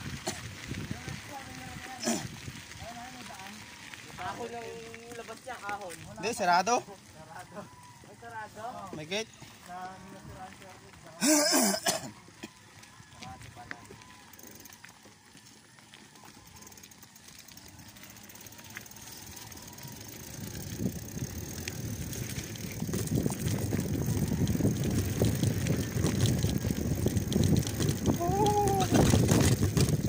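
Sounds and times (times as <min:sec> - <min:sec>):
bike rumbling over rough ground: 0:00.0 - 0:30.0.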